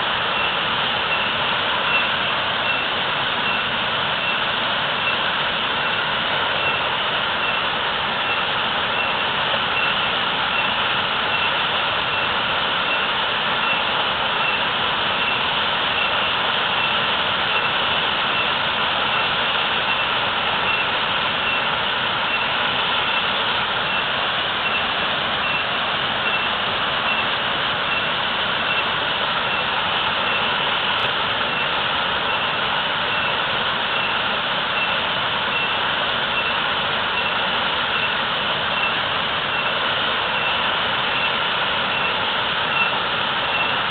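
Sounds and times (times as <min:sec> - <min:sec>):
waterfall pouring: 0:00.0 - 0:43.9.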